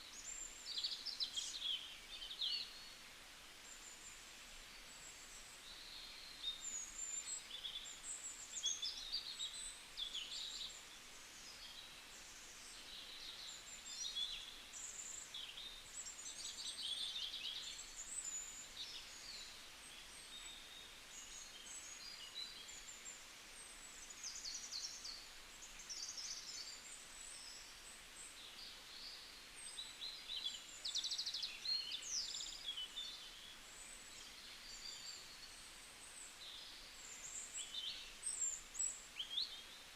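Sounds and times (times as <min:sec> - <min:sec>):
faint steady hiss: 0:00.0 - 0:39.9
small birds chirping: 0:00.0 - 0:39.9.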